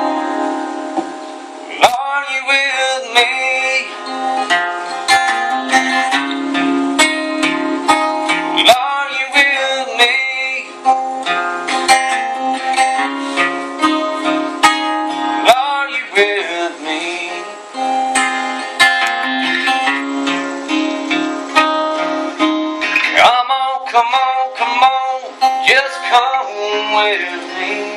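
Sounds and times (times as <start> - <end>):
picked guitar lead with bent notes: 0.0 - 27.9
strummed acoustic guitar chords: 0.0 - 27.9.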